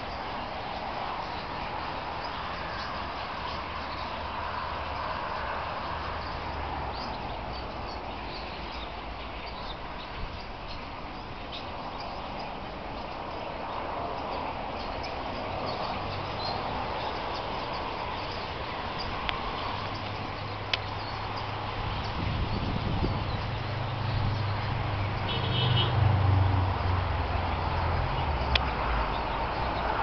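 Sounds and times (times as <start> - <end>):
starlings chattering: 0.0 - 26.0, 26.6 - 30.0.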